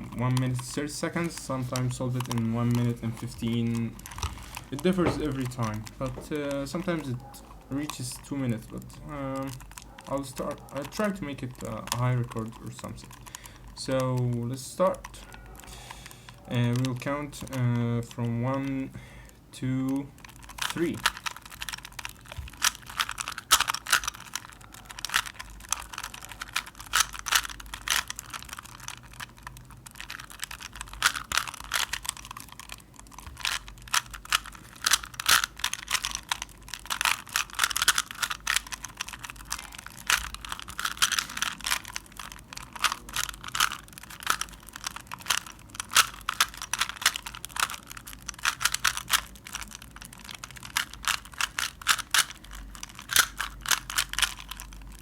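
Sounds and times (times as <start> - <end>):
puzzle cube plastic clicks: 0.0 - 55.0.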